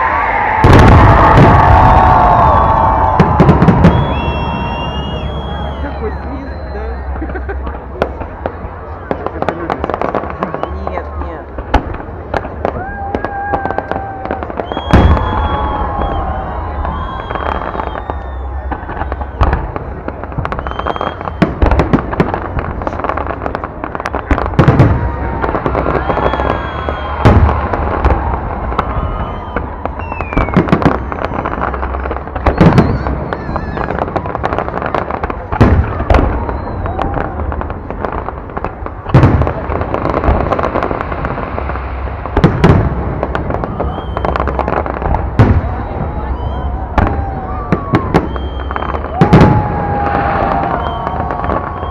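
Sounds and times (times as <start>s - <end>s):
fireworks bangs and crackles: 0.0s - 51.9s
heavy fireworks booms: 0.0s - 51.9s.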